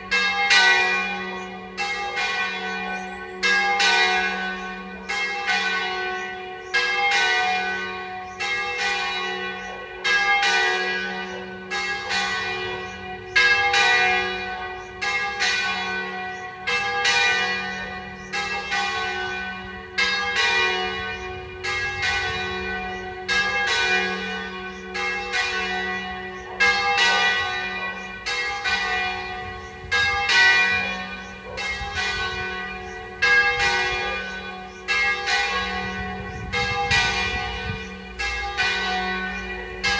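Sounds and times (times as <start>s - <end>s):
church bells striking alternately: 0.0s - 39.9s.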